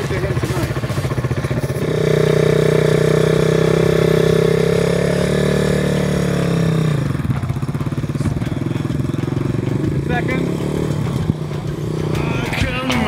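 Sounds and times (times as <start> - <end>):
dirt bike engine: 0.0 - 13.0.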